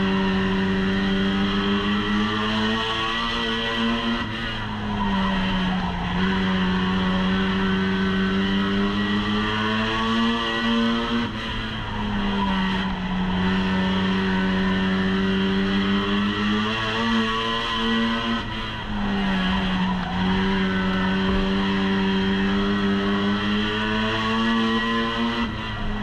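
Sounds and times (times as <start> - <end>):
race car engine: 0.0 - 26.0.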